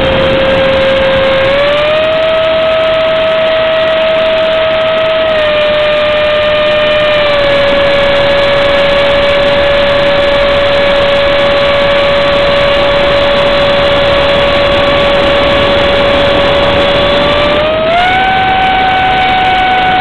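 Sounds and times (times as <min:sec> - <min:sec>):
electric motor whining: 0:00.0 - 0:20.0
rushing wind: 0:00.0 - 0:20.0.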